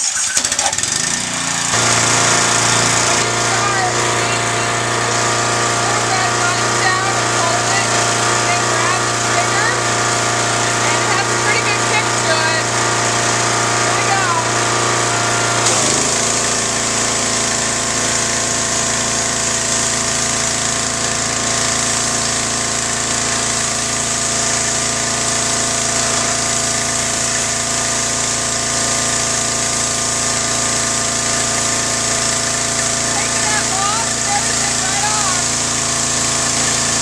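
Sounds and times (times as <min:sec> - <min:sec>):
pressure washer engine running: 0:00.0 - 0:37.0
water jet spraying hiss: 0:01.7 - 0:13.4, 0:14.0 - 0:37.0.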